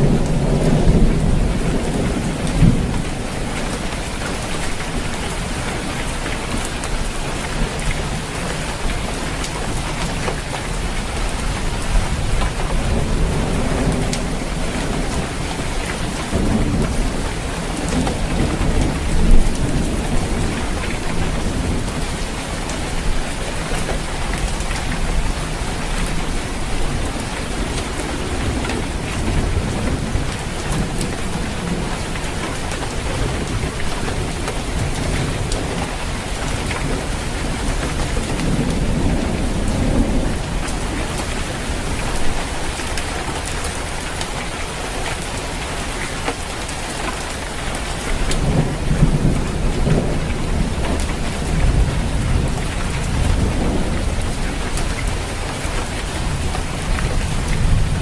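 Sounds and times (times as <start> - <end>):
rain falling on a roof: 0.0 - 58.0
thunder rumbling: 0.0 - 58.0.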